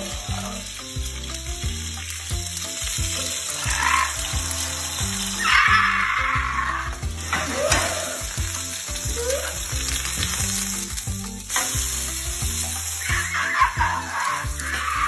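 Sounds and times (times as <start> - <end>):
meat and egg sizzling in oil: 0.0 - 15.0.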